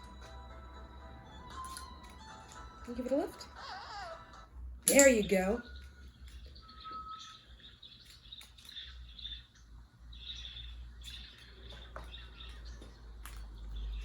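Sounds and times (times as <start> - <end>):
parrot chirping: 1.0 - 14.0.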